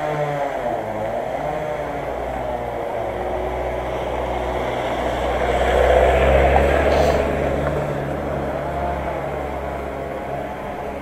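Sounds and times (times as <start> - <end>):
road noise: 0.0 - 11.0
vehicle engine rumble passing: 0.0 - 11.0.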